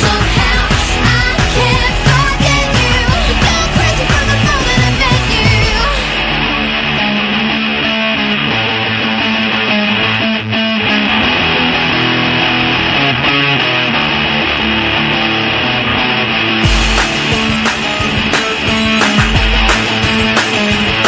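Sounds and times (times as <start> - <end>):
pop-rock music over sound system: 0.0 - 21.0.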